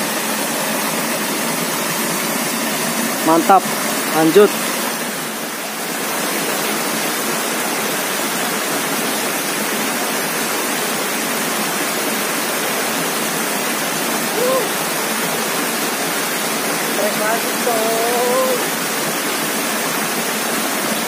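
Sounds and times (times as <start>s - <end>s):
water pouring over rocky cascade: 0.0s - 21.0s.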